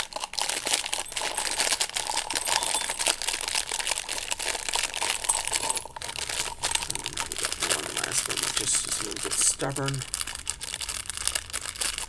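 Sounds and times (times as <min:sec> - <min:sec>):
beads clicking and rattling: 0:00.0 - 0:12.0.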